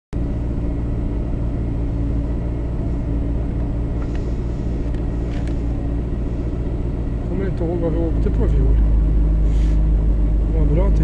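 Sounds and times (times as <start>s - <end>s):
car engine idling: 0.2s - 11.0s.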